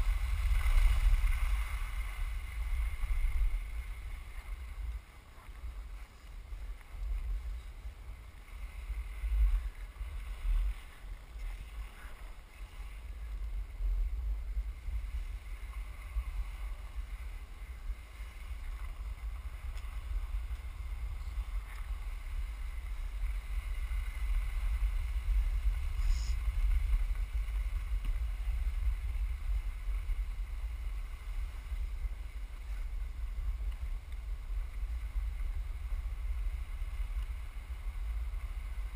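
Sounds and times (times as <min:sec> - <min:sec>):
skis hissing over snow: 0:00.0 - 0:38.9
wind buffeting microphone: 0:00.0 - 0:38.9.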